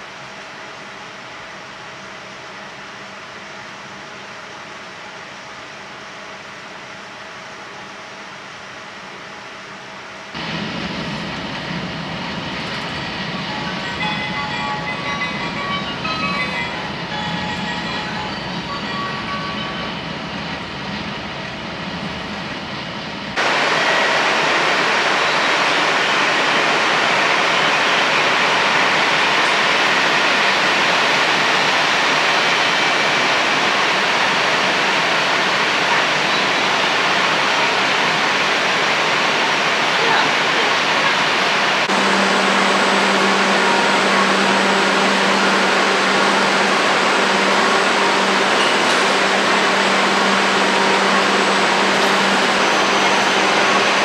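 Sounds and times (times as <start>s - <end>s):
train low rumble: 0.0s - 54.0s
rushing hiss beside train: 10.4s - 54.0s.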